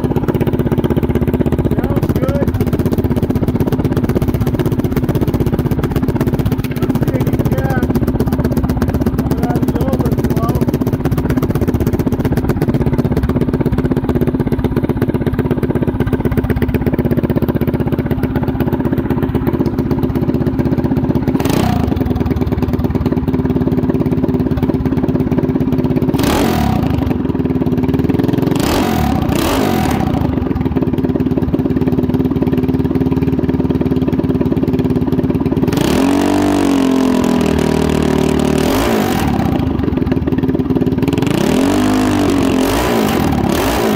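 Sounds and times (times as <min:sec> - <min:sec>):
small engine idling and revving: 0:00.0 - 0:43.9.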